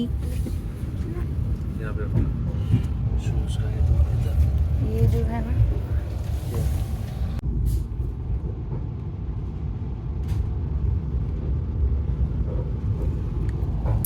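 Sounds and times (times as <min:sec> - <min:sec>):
train rumbling inside coach: 0:00.0 - 0:14.0.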